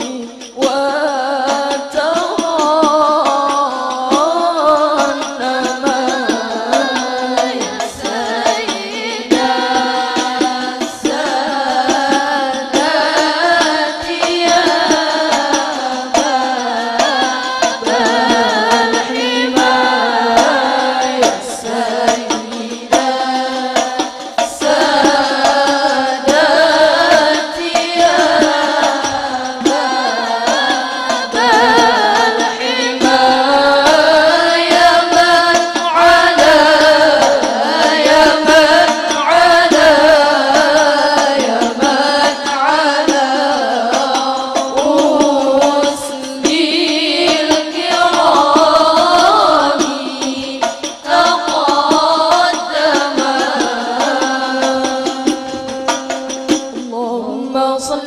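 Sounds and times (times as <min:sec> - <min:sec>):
frame drums beating: 0:00.0 - 0:57.0
women singing melismatically: 0:00.0 - 0:58.0.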